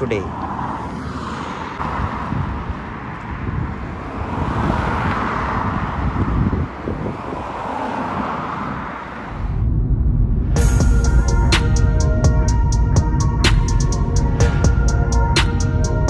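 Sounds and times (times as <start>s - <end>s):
road traffic rush: 0.0s - 16.0s.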